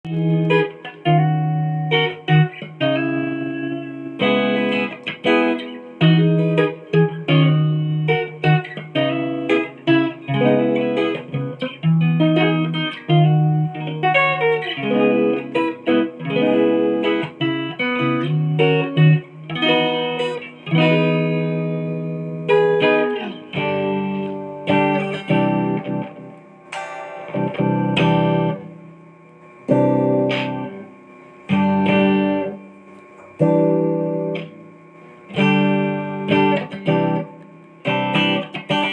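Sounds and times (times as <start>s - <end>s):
electric guitar notes and chords: 0.0s - 38.9s.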